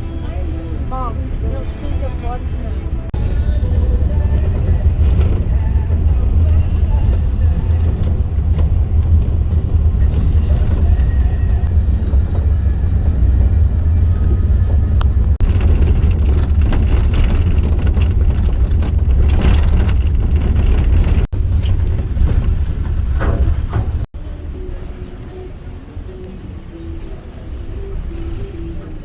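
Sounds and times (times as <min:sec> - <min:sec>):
vehicle interior rumble: 0:00.0 - 0:29.0.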